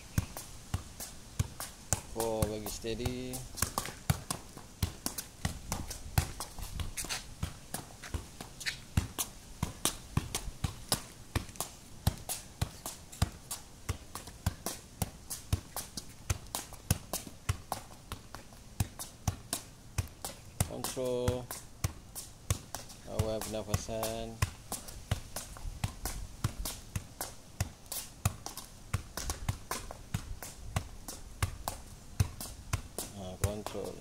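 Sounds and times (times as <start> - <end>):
foot striking football: 0.0 - 34.0.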